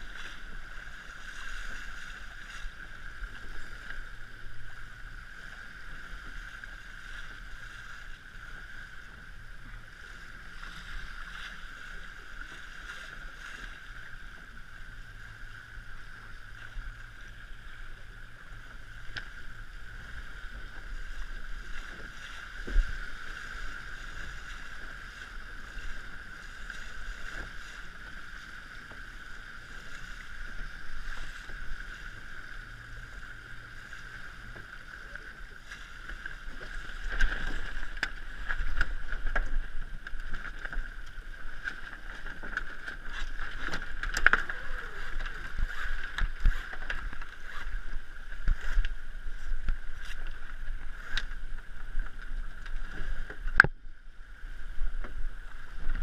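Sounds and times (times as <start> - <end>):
water rushing: 0.0 - 56.0
wind: 0.0 - 56.0.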